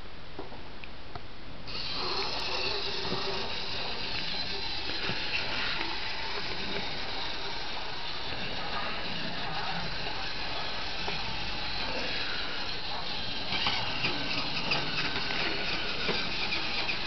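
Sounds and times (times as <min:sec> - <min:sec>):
toy train motor whirring: 0:01.7 - 0:17.0.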